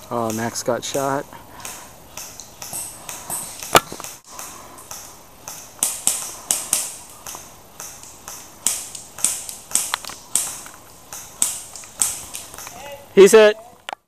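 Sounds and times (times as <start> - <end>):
airsoft gun shots: 0.3 - 13.0.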